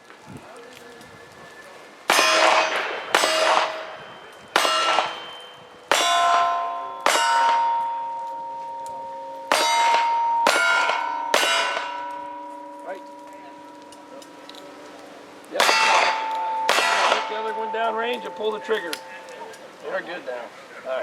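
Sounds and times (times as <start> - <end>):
steel target clanging: 2.1 - 14.8, 15.5 - 19.7.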